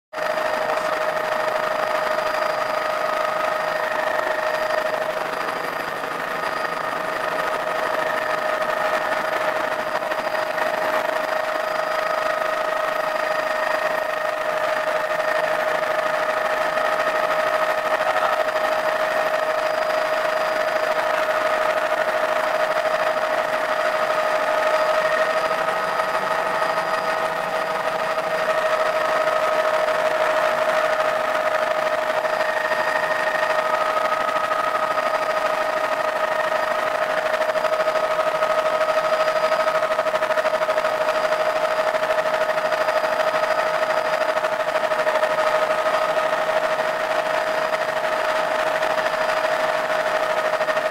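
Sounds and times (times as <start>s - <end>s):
helicopter engine and rotors: 0.1s - 50.9s.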